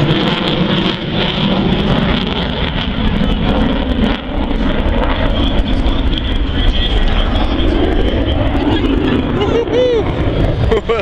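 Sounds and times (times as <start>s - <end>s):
military jet engine roar: 0.0s - 11.0s.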